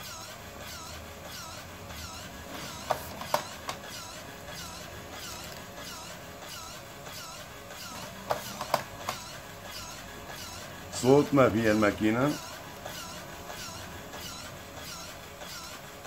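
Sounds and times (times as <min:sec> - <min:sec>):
machine buzz with wavering whine: 0:00.0 - 0:16.0.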